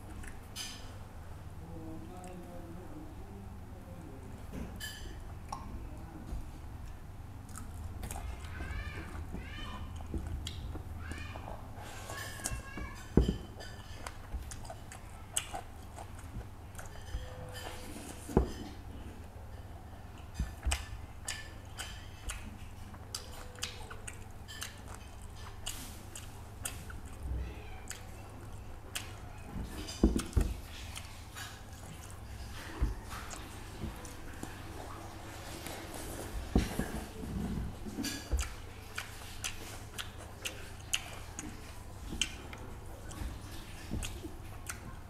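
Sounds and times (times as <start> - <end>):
wet chewing and lip-smacking: 0.0 - 0.5, 5.3 - 5.8, 6.8 - 18.6, 20.1 - 45.0.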